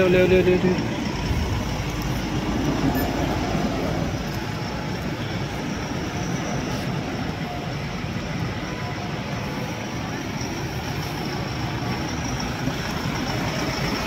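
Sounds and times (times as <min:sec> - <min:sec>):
heavy truck engines droning: 0:00.0 - 0:14.0
road noise: 0:00.0 - 0:14.0.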